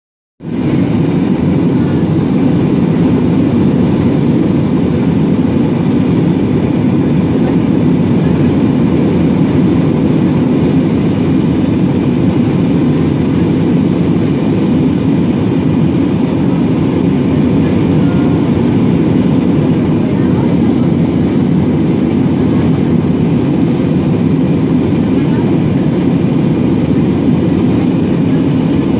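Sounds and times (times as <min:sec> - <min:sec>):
airliner cabin engine rumble: 0:00.4 - 0:28.9.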